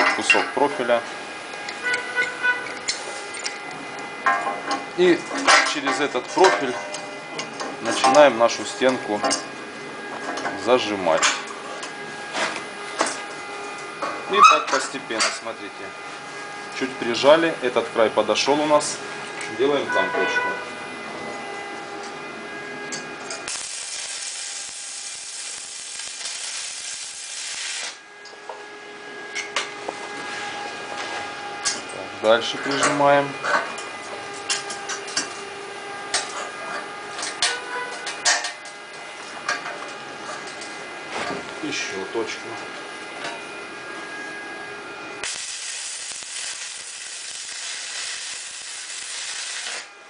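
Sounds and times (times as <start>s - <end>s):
arc welding crackling and hissing: 0.2s - 20.1s, 21.3s - 28.6s, 29.3s - 44.4s, 45.0s - 50.0s.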